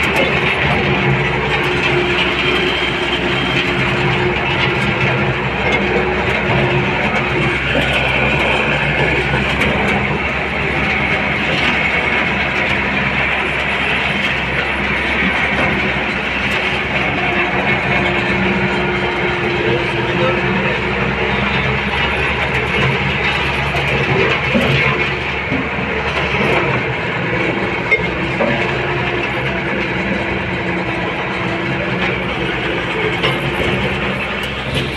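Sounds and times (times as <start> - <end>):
diesel engine drone: 0.0 - 34.9
rattly mechanical noise: 0.0 - 34.9.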